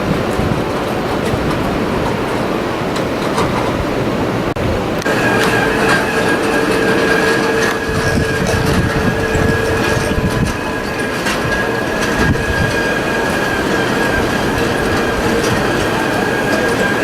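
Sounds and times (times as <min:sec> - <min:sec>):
steady whine: 0:00.0 - 0:17.0
tram wheels clattering over planks: 0:00.0 - 0:17.0.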